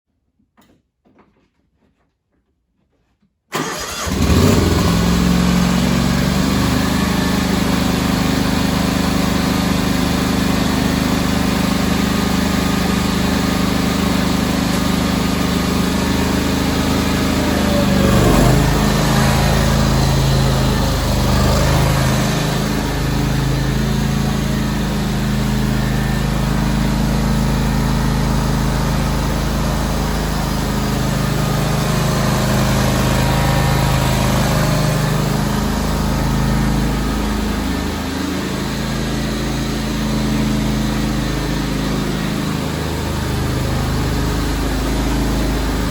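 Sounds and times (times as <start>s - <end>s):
garden tractor engine running: 3.5s - 45.9s.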